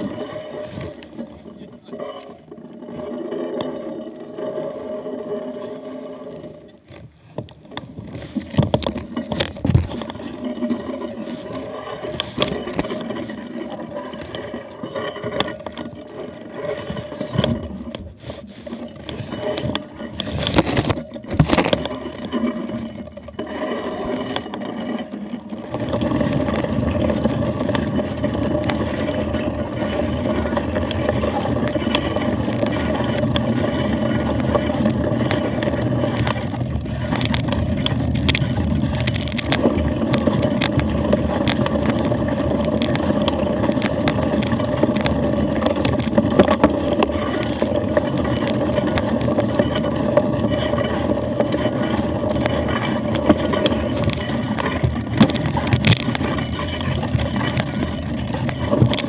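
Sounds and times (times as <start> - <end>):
bike rattling and knocking: 6.8 - 59.0.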